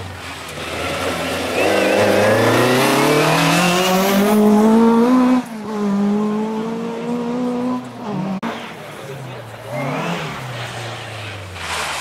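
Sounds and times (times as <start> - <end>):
rally car accelerating: 0.0 - 12.0.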